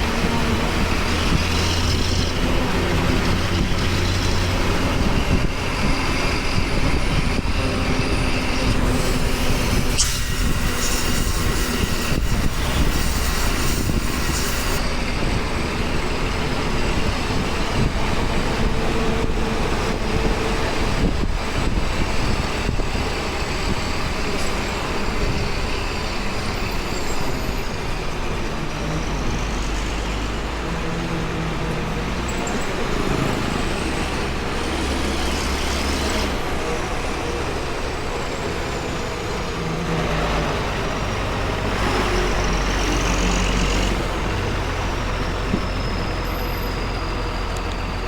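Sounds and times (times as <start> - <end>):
bus diesel engine running: 0.0 - 48.0
road and wind noise: 0.0 - 48.0.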